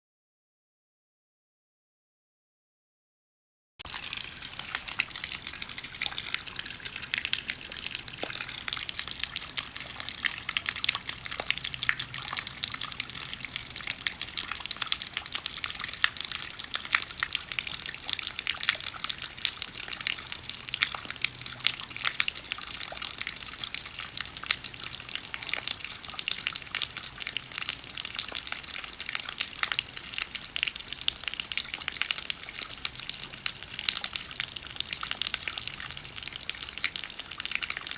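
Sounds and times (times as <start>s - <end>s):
rain falling: 3.8s - 37.9s.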